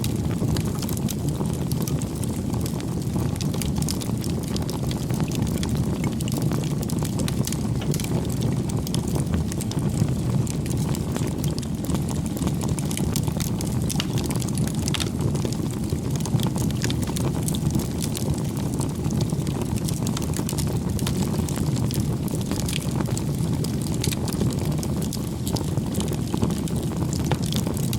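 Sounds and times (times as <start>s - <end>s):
fire crackling and popping: 0.0s - 27.9s
wood fire flames rushing: 0.0s - 27.9s.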